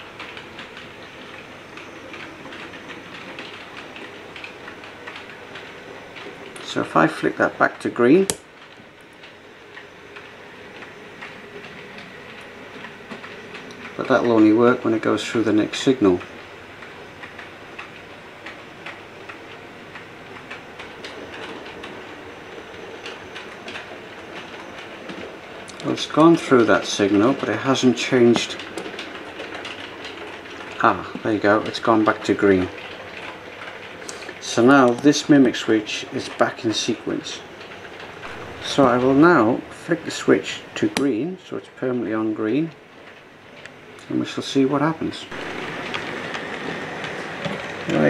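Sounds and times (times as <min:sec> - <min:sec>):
model train running: 0:00.0 - 0:48.0
wheels clicking on rails: 0:00.0 - 0:48.0.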